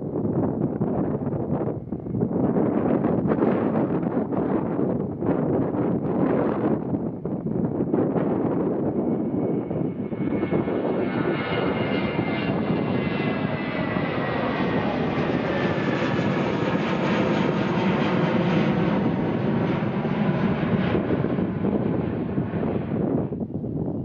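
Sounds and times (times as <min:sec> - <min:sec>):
jet engines roaring with high whine: 0:00.0 - 0:24.0.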